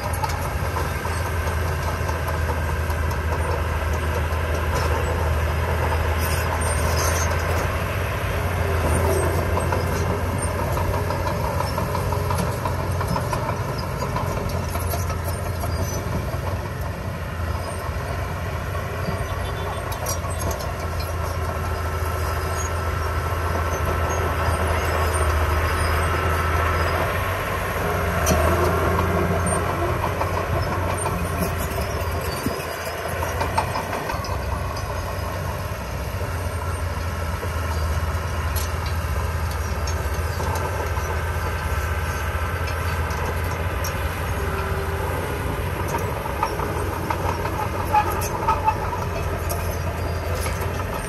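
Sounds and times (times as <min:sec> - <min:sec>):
bulldozer diesel engine running: 0:00.0 - 0:51.0
steel tracks clanking: 0:00.0 - 0:51.0.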